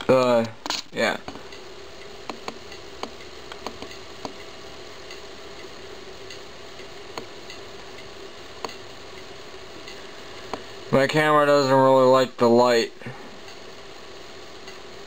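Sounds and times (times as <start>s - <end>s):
cd drive whine: 0.0s - 15.0s.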